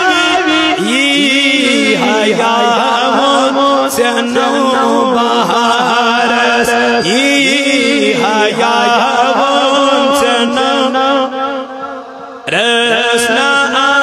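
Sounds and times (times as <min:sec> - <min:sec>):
man singing solo: 0:00.0 - 0:14.0.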